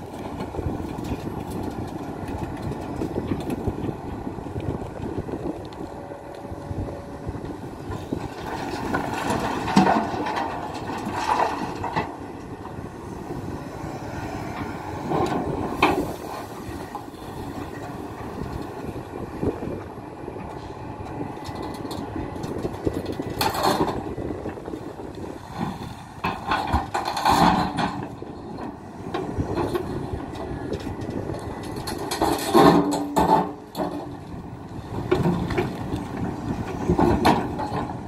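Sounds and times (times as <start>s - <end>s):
excavator running under load: 0.0s - 38.0s.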